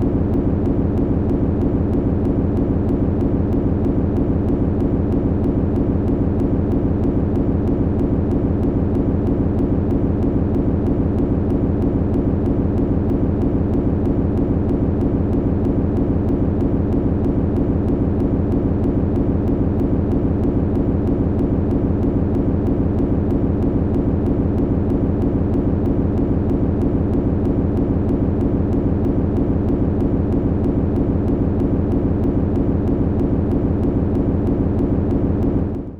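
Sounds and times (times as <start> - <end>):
machinery humming with pulse: 0.0 - 35.9.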